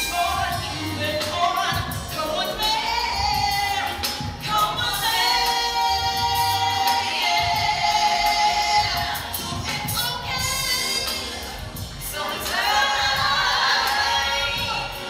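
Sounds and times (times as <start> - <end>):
backing music with bass line: 0.0 - 15.0
woman singing: 0.0 - 15.0.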